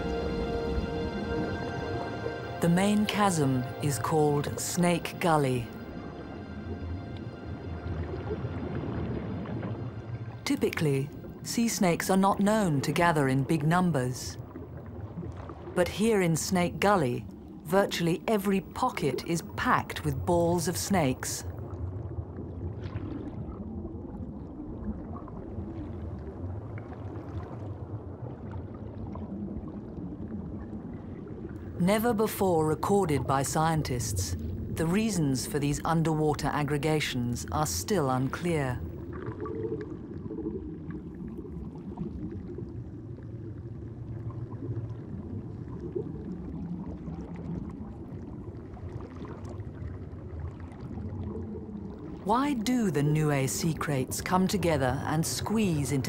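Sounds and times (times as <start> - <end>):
muffled underwater rumble: 0.0 - 56.0.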